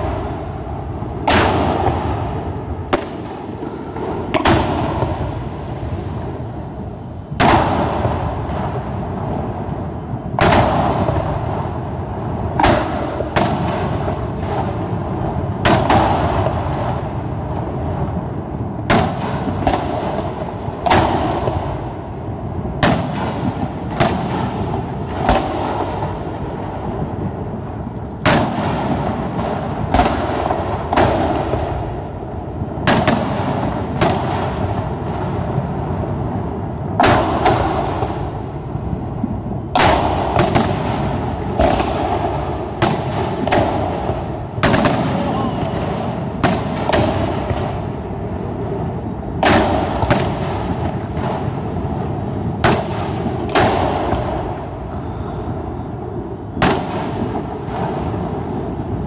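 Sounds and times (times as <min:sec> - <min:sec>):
firework shells bursting: 0:00.0 - 0:18.2, 0:18.8 - 0:54.9, 0:56.4 - 0:59.0
steady background hiss: 0:00.0 - 0:59.0.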